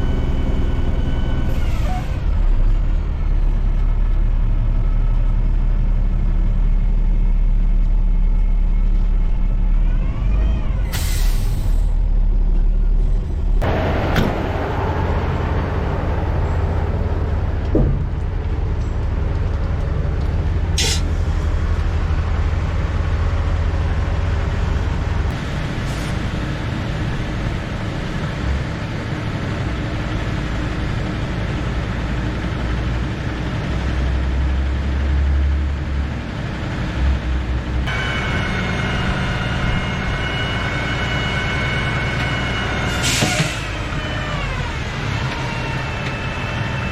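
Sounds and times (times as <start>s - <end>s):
diesel truck engine rumbling: 0.0s - 46.9s.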